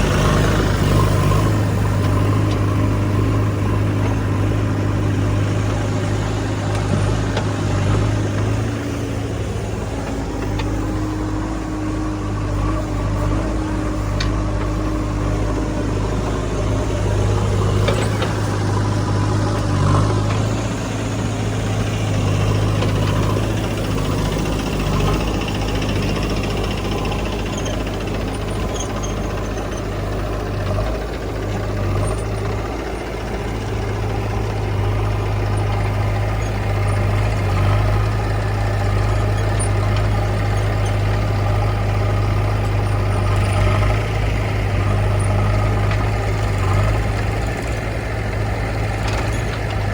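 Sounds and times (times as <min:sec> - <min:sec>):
heavy diesel engine humming: 0:00.0 - 0:49.9.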